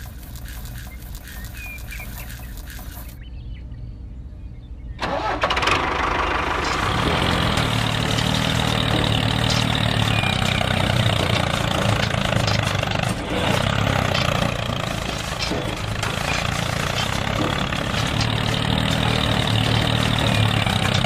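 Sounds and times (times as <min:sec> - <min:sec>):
small engine idling: 0:00.0 - 0:03.3, 0:05.0 - 0:21.0.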